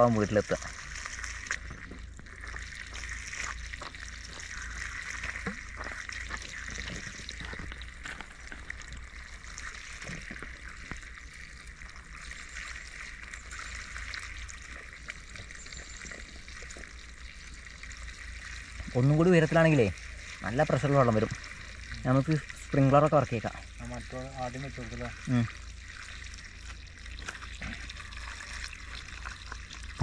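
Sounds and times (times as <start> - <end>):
small water splashes: 0.0 - 30.0
water pouring from pipe onto ground: 0.0 - 30.0.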